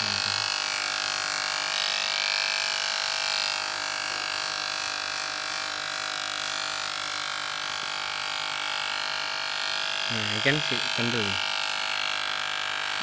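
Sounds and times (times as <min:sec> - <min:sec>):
electric hair clipper buzzing: 0:00.0 - 0:13.0.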